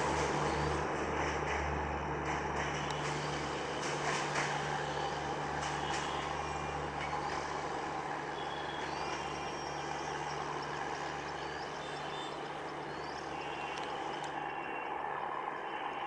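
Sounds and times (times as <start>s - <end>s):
constant low drone: 0.0s - 16.0s
train rolling along track: 0.0s - 16.0s.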